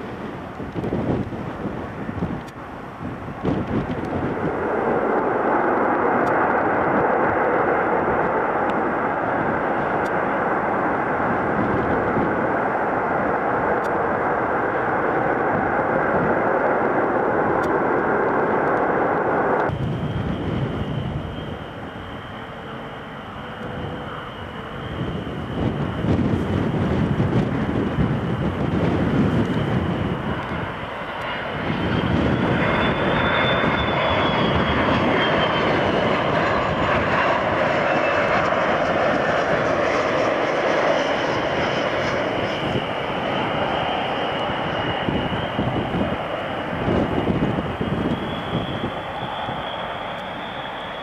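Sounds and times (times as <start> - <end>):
jet climbing with high whine: 0.0 - 51.0
jet engines running: 0.0 - 51.0.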